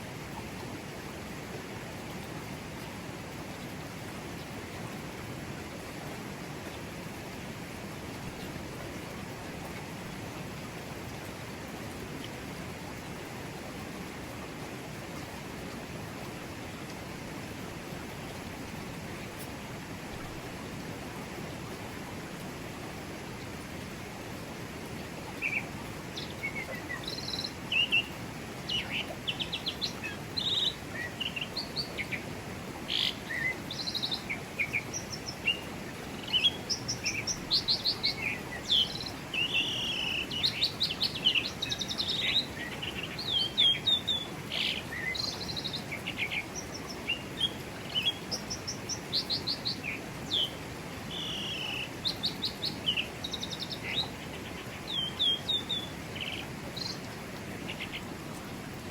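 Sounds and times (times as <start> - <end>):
river rushing: 0.0 - 58.9.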